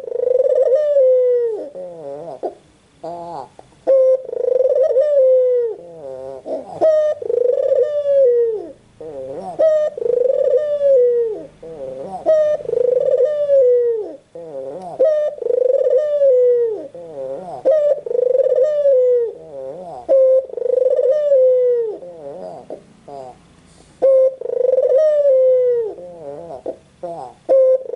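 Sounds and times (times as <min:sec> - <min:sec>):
dove cooing: 0:00.0 - 0:27.9.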